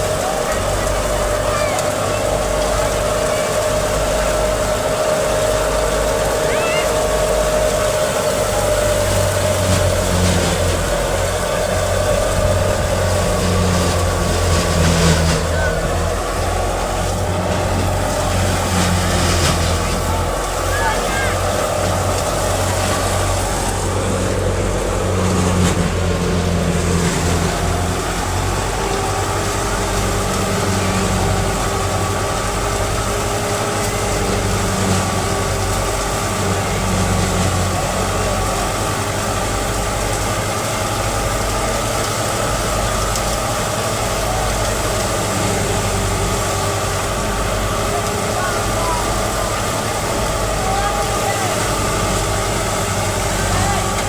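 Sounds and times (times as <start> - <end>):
harvester engine humming: 0.0 - 54.0.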